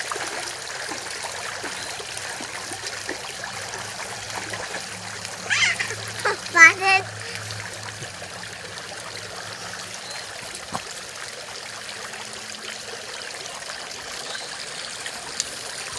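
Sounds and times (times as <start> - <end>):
fountain water splashing: 0.0 - 15.9.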